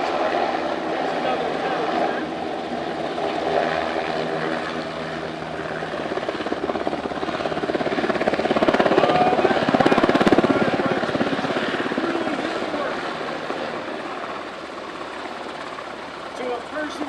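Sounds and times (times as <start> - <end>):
helicopter rotor blade slap: 0.0 - 14.4.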